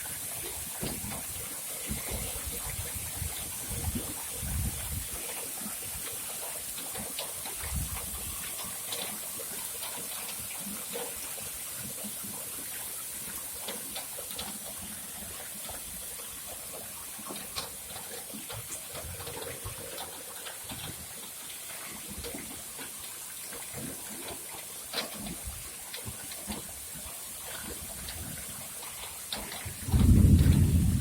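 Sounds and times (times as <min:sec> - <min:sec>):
heavy rain gushing: 0:00.0 - 0:31.0
water drips and splashes: 0:00.0 - 0:31.0.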